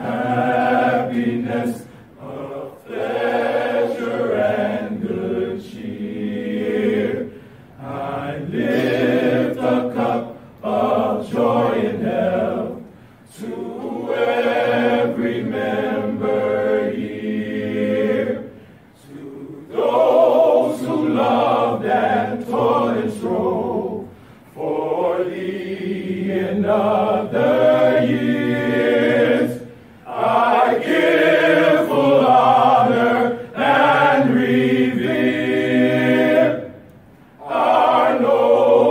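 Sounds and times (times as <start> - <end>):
men's choir singing a hymn: 0.0 - 38.9.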